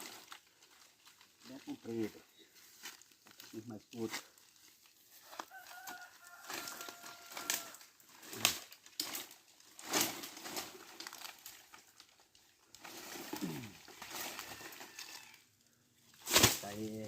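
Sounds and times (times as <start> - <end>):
wooden sticks cracking and snapping: 0.0 - 2.0, 2.6 - 15.5, 16.1 - 17.0
dry branches rustling: 0.0 - 17.0.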